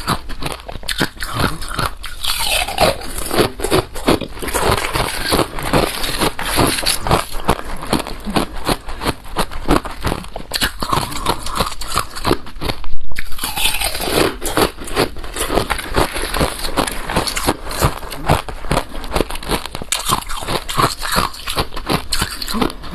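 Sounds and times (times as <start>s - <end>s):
chewing crunchy ice: 0.0s - 22.9s.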